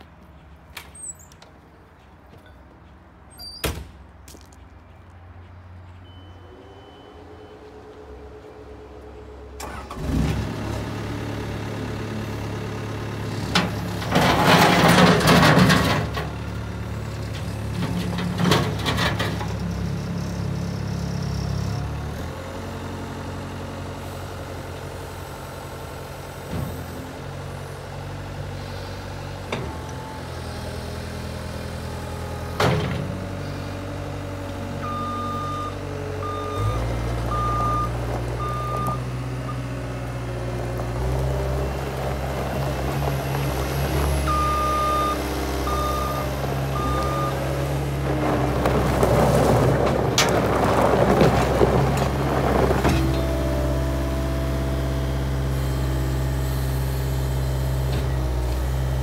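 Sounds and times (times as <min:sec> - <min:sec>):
diesel engine starting and running: 0:04.8 - 0:59.0.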